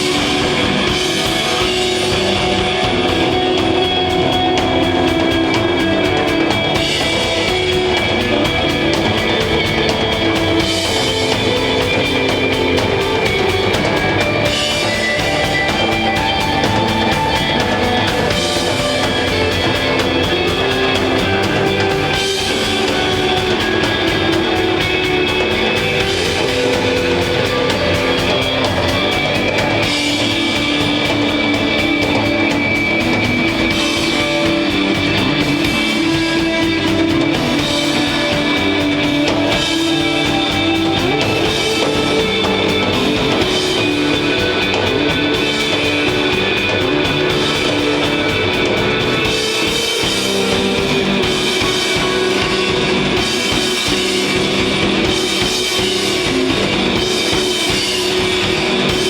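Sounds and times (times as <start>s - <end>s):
bass guitar: 0.0s - 59.0s
drum kit playing: 0.0s - 59.0s
electric guitar lines: 0.0s - 59.0s.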